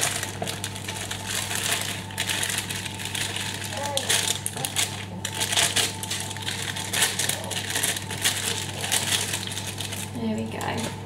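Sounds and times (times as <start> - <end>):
cake mix packet crackling: 0.0 - 11.0.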